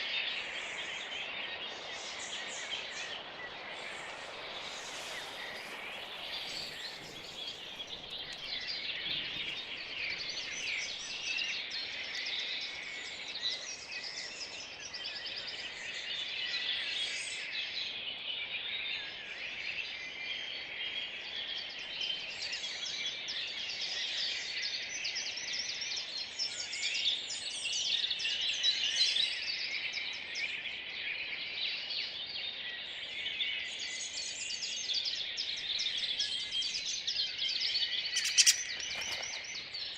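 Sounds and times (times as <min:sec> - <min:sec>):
songbirds singing: 0:00.0 - 0:19.1, 0:19.9 - 0:39.9.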